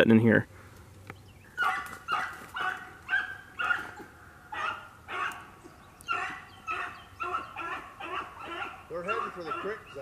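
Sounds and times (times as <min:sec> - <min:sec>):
hunting dogs baying: 0:01.5 - 0:10.0.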